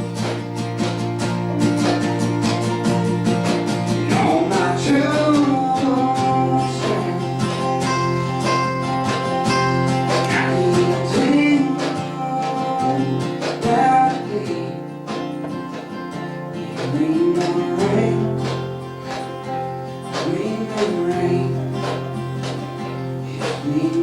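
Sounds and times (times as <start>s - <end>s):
acoustic country band: 0.0s - 24.0s
picked acoustic guitars: 0.0s - 24.0s.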